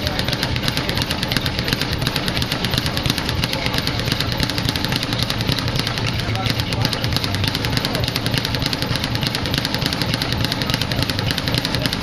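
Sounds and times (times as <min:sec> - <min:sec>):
speed bag being punched: 0:00.0 - 0:12.0.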